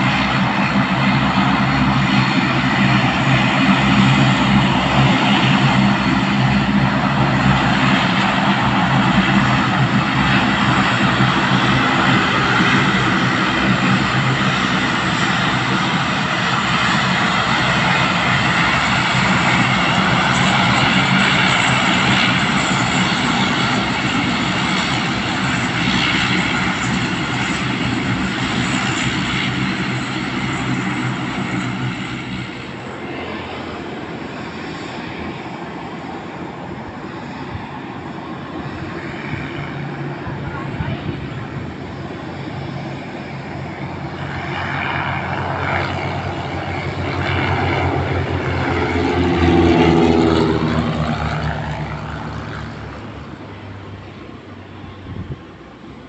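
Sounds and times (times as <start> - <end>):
propeller drone: 0.0 - 56.0
turbine whine: 0.0 - 56.0.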